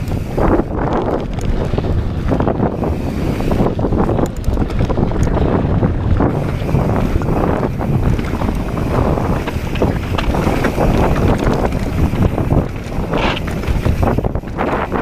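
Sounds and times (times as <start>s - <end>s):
bike frame and chain rattling: 0.0s - 15.0s
tyres rumbling on rock: 0.0s - 15.0s
wind buffeting microphone: 0.0s - 15.0s.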